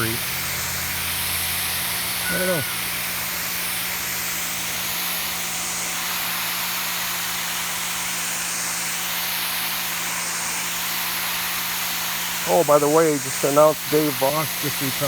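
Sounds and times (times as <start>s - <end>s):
pressure washer motor hum: 0.0s - 15.0s
water jet spraying on concrete: 0.0s - 15.0s.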